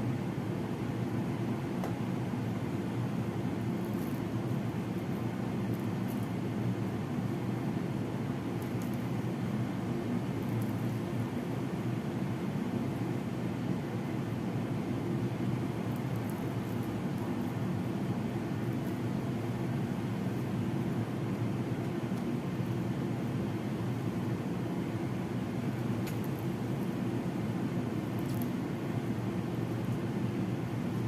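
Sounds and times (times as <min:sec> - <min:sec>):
fan humming: 0:00.0 - 0:31.0.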